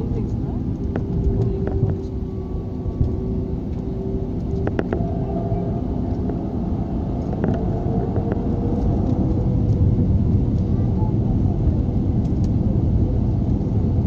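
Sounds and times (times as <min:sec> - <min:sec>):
low rumble of engines and wheels: 0:00.0 - 0:14.0
steady hum: 0:00.0 - 0:14.0.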